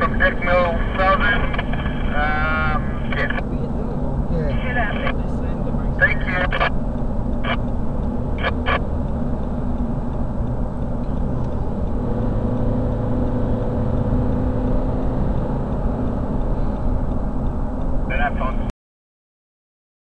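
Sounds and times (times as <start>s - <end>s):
road and engine noise in vehicle: 0.0s - 18.7s.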